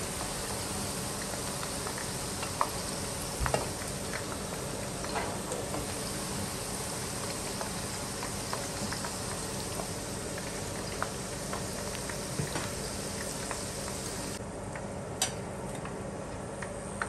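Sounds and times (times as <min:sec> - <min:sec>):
oil sizzling in a wok: 0:00.0 - 0:14.4.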